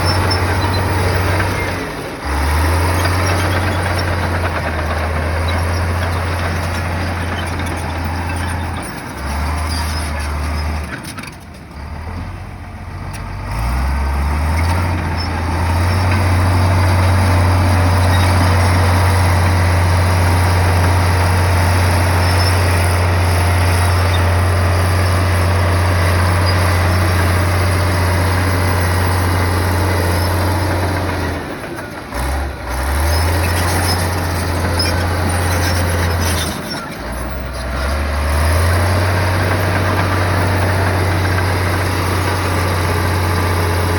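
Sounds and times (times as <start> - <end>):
bulldozer diesel engine droning: 0.0 - 43.9.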